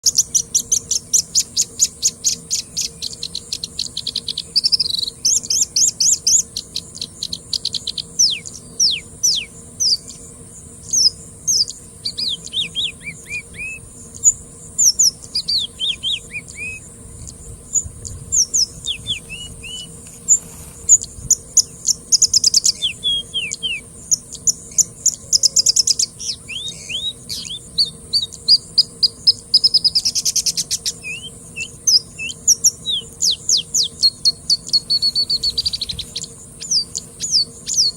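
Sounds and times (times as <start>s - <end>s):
bird trills: 0.0s - 10.2s, 10.8s - 37.9s
bird singing whistled notes: 0.0s - 37.9s
faint high hiss: 0.0s - 37.9s.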